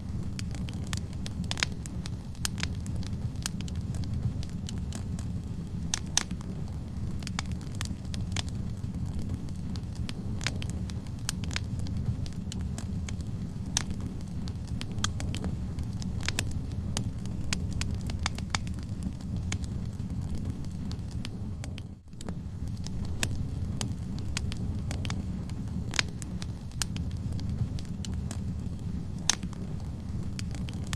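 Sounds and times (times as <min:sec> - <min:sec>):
burning logs crackling and popping: 0:00.0 - 0:30.9
wood fire rumbling: 0:00.0 - 0:30.9.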